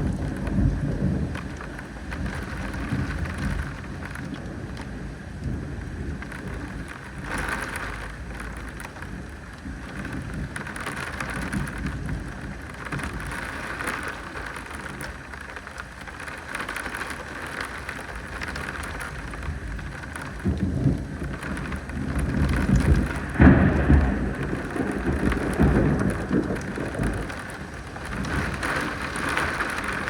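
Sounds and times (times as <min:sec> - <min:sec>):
low thunder rumble: 0:00.0 - 0:15.0, 0:18.2 - 0:30.0
steady rain: 0:00.0 - 0:30.0.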